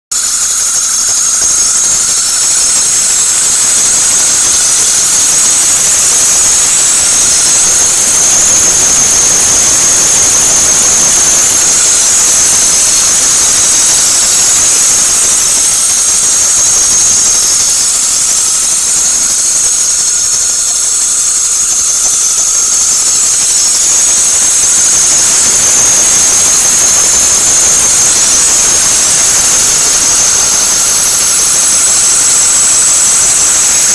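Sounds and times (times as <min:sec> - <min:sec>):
high-pitched engine squeal: 0:00.1 - 0:33.9.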